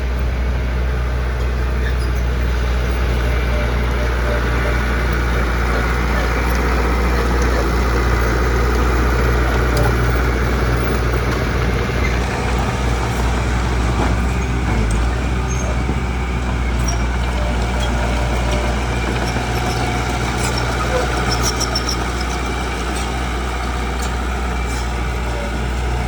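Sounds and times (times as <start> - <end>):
construction machine engine running: 0.0 - 26.0.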